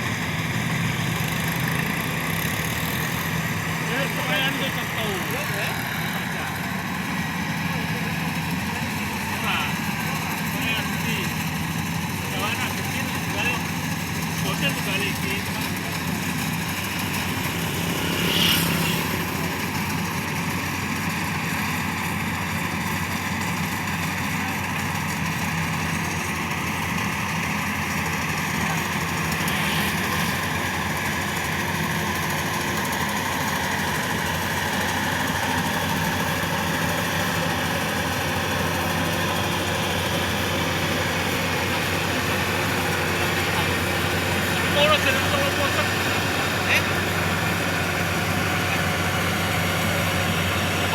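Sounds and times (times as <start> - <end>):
combine harvester engine running: 0.0 - 50.9.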